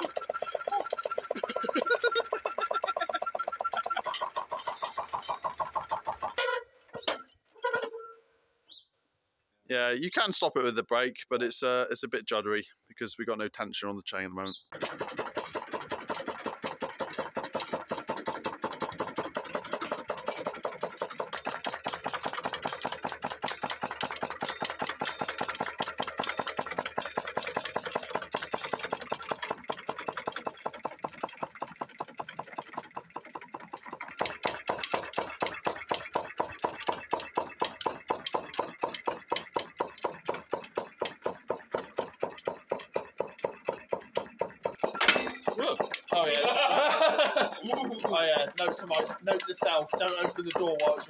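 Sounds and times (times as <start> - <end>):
stirling engine rapid beat: 0.0 - 6.4, 14.7 - 51.0.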